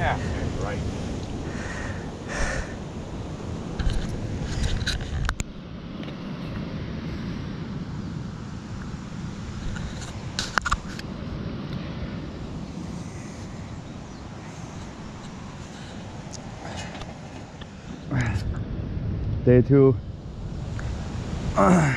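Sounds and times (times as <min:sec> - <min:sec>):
wind rumbling on microphone: 0:00.0 - 0:21.9.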